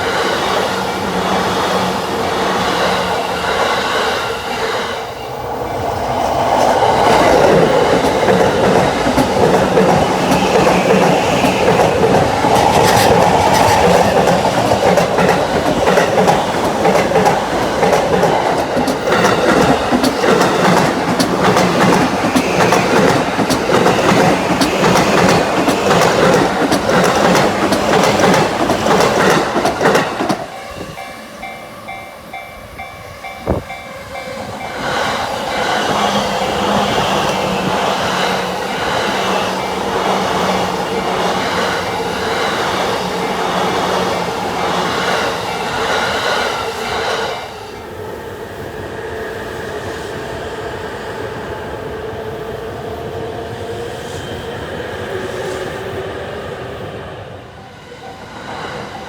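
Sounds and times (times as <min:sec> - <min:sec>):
train wheels clattering on rails: 0:00.0 - 0:47.4.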